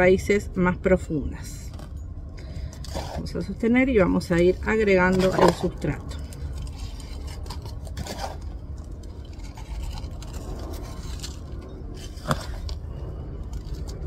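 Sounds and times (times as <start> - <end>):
low rumble: 0.0 - 14.0
potting mix scraping and clicking: 1.4 - 14.0.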